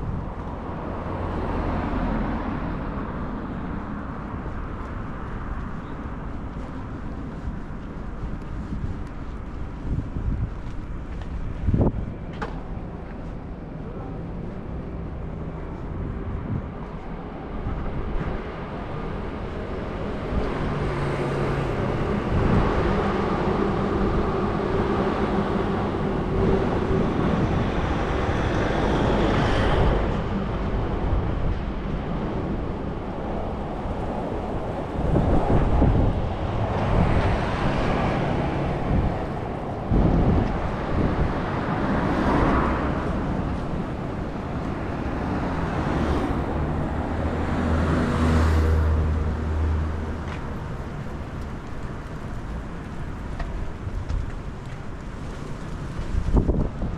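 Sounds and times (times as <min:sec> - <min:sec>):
vehicles passing: 0:00.0 - 0:56.9
wind on microphone: 0:00.0 - 0:56.9.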